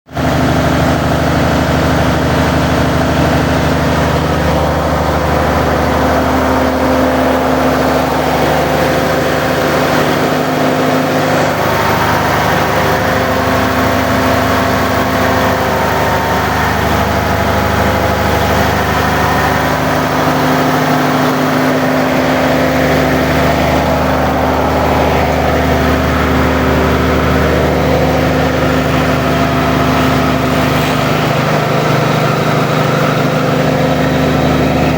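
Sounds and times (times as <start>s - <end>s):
diesel engine running steadily: 0.1s - 34.9s.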